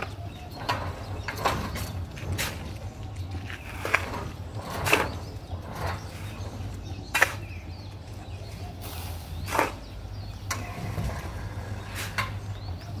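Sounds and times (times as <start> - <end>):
cement mixer humming: 0.0 - 13.0.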